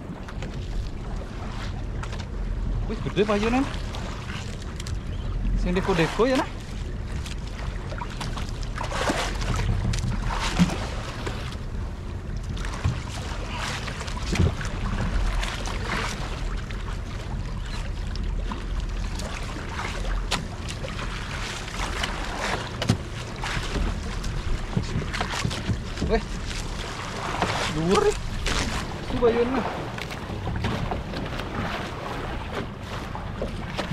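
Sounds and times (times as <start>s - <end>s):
boat engine running: 0.0s - 33.9s
water noise: 0.0s - 33.9s
wind: 0.0s - 33.9s.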